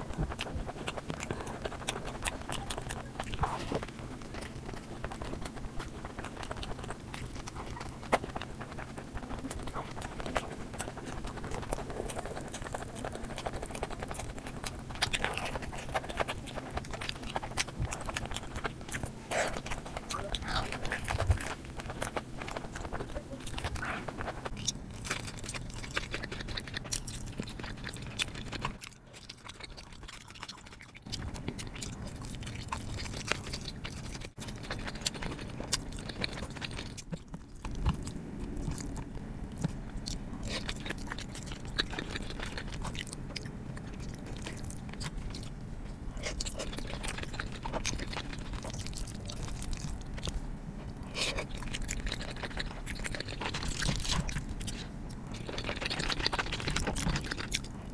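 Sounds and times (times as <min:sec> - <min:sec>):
chewing and biting food: 0:00.0 - 0:57.9
food crunching: 0:00.0 - 0:57.9.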